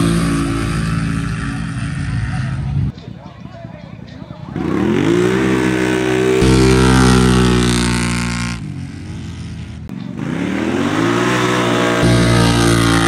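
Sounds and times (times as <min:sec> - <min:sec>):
atv engines at full throttle: 0:00.0 - 0:13.0.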